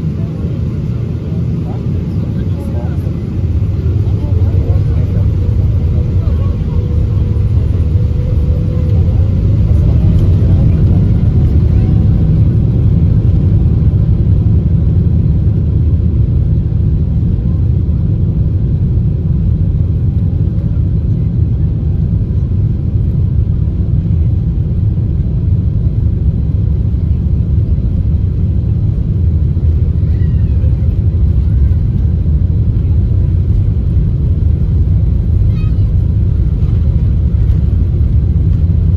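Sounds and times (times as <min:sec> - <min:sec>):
low engine rumble: 0:00.0 - 0:38.9.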